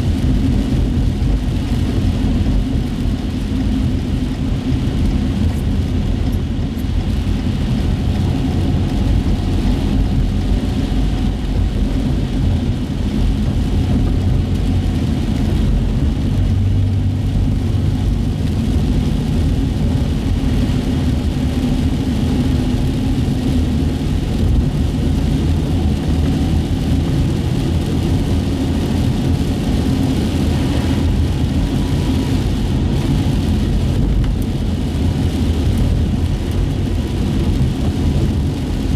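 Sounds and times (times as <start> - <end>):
car engine rumble inside cabin: 0.0 - 38.9.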